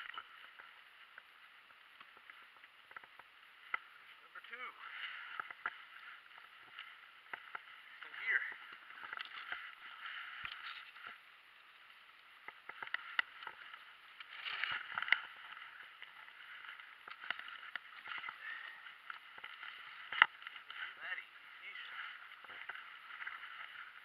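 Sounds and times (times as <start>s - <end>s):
water lapping around kayak: 4.8s - 24.0s.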